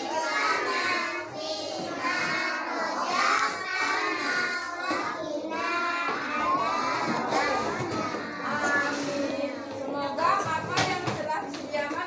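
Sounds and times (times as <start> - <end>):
children singing: 0.0 - 9.8
children chattering: 0.0 - 12.0.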